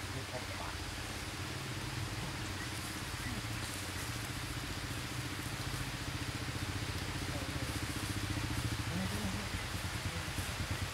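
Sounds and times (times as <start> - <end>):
engine idling: 1.0 - 10.9.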